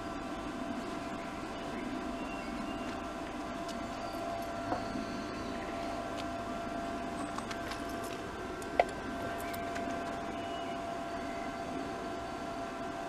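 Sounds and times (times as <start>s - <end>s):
welder hum and hiss: 0.0s - 13.0s.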